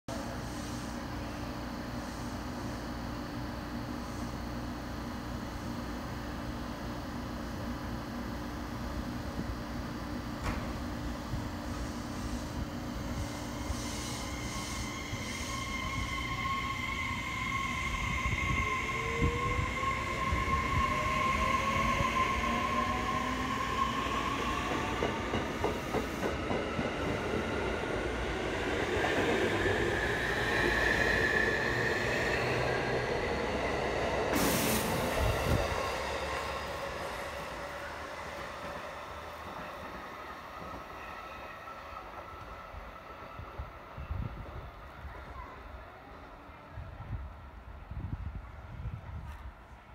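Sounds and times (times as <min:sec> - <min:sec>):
electric train whine: 0:00.1 - 0:45.2.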